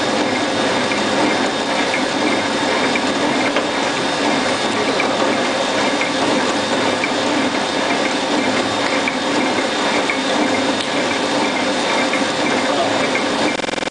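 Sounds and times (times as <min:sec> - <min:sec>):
wrapping machine running: 0:00.0 - 0:13.9.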